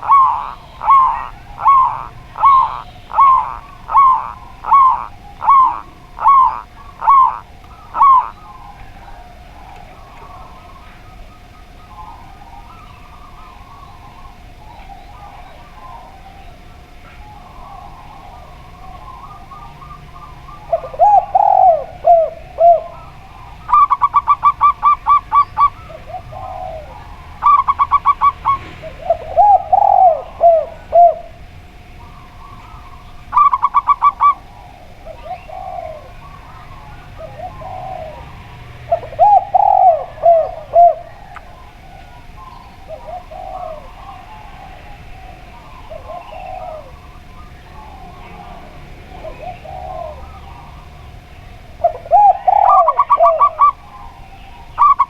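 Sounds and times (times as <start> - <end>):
dove cooing low phrases: 0.0 - 55.0
faint bird chirping: 0.0 - 55.0.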